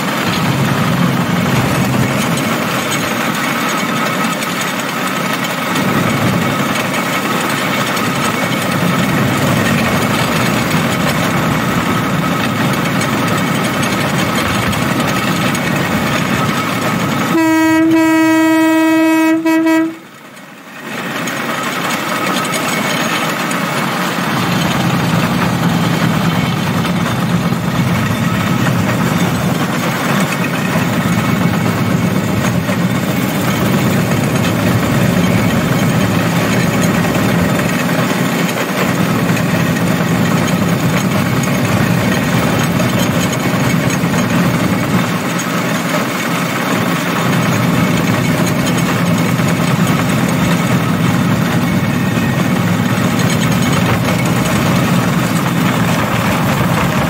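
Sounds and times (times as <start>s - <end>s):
motorized rail cart engine droning: 0.0s - 57.0s.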